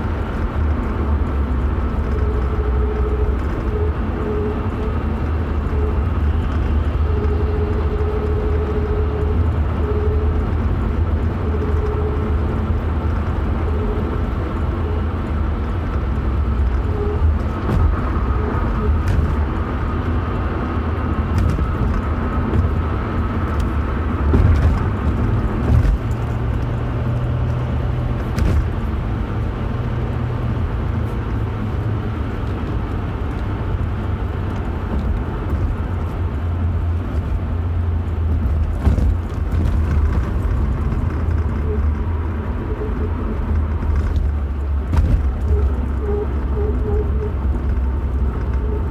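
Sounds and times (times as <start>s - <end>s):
car driving rumble: 0.0s - 48.9s.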